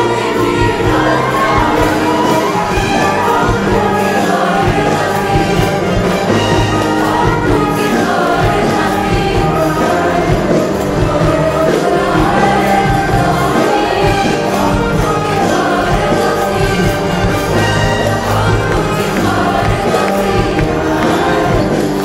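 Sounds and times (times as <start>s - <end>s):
crowd singing in chorus: 0.0s - 22.0s
live band playing: 0.0s - 22.0s.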